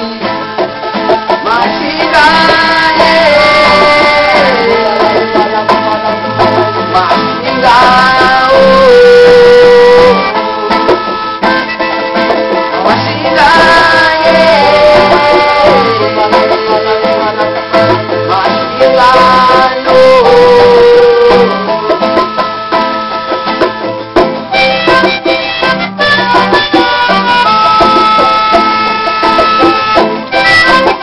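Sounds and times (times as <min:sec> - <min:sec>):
acoustic guitar: 0:00.0 - 0:31.0
melodica melody: 0:00.0 - 0:31.0
strummed charango: 0:00.0 - 0:31.0.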